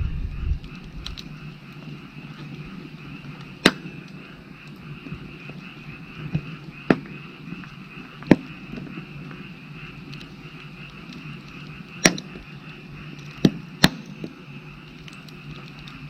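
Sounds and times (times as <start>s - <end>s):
firewood burning: 0.0s - 16.0s
frogs calling: 0.1s - 16.0s
logs popping and cracking: 0.3s - 16.0s.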